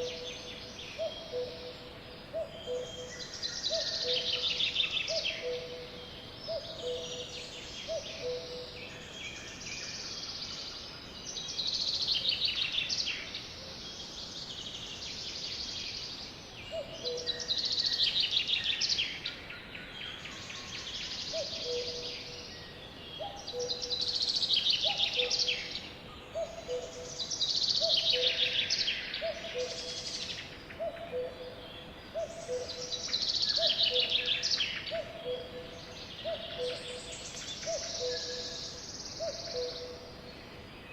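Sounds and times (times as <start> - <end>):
songbird trills: 0.0 - 40.9.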